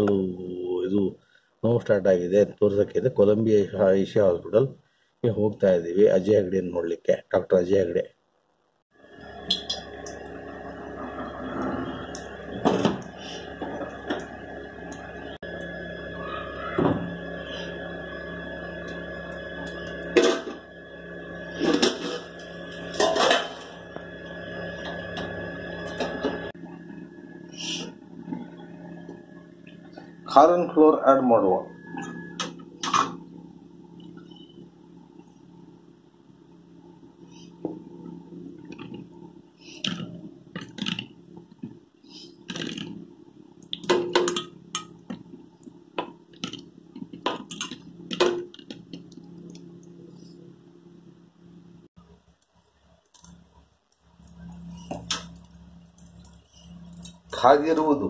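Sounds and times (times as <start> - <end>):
steady mechanical hum: 8.9 - 58.0.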